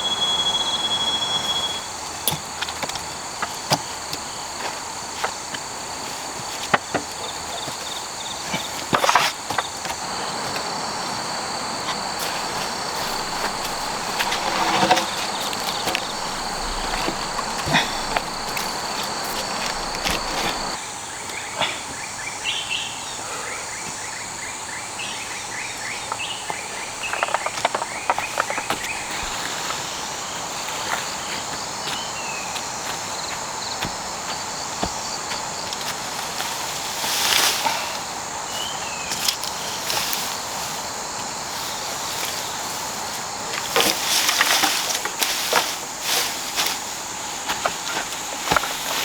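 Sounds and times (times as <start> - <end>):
high insect drone: 0.0 - 49.0.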